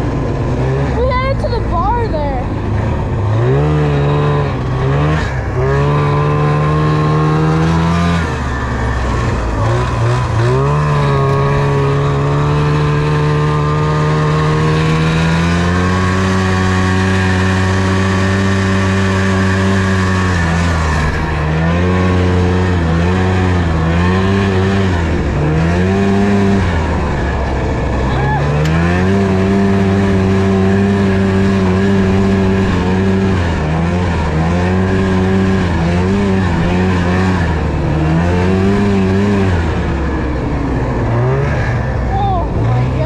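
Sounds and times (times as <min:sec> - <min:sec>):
snowmobile engine revving: 0:00.0 - 0:43.0.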